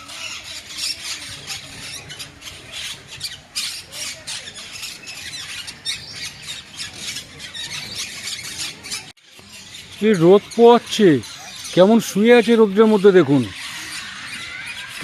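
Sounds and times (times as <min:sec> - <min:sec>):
birds squawking and screeching: 0:00.0 - 0:15.0.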